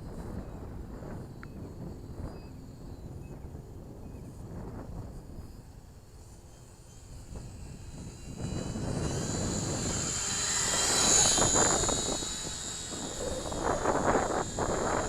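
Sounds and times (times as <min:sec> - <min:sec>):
model plane motors whining: 0:00.0 - 0:15.0.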